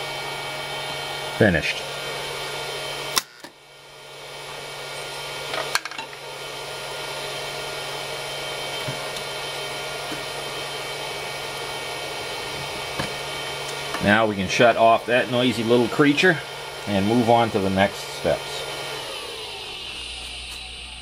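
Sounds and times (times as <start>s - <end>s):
heater unit running: 0.0s - 21.0s.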